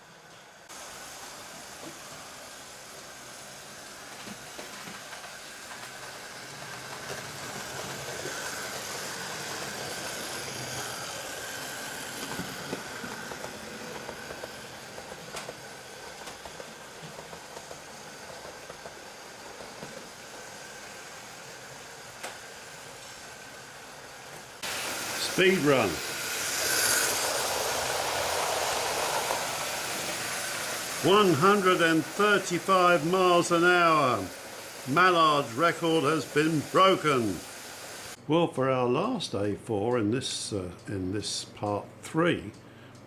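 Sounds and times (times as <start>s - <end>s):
model train motor whirring: 0.7s - 38.2s.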